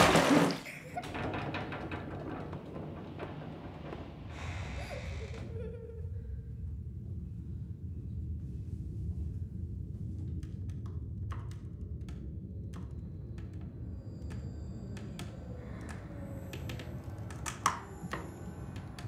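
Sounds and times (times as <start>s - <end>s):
low rumble: 0.9s - 19.0s.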